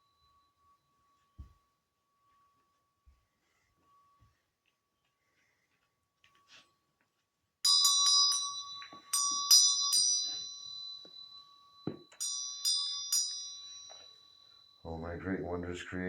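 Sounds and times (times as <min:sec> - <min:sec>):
small bell ringing: 0:00.0 - 0:05.3, 0:07.6 - 0:15.7.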